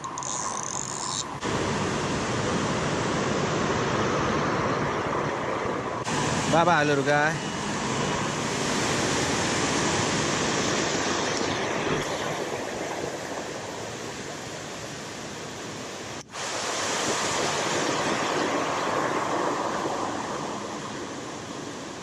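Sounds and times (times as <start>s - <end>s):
water rushing over spillway: 1.4s - 5.2s, 5.8s - 22.0s.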